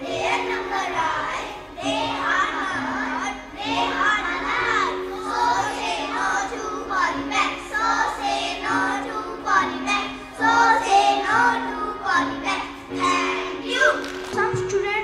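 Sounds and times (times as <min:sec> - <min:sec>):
children singing in chorus: 0:00.0 - 0:14.3
instrumental backing music: 0:00.0 - 0:15.0.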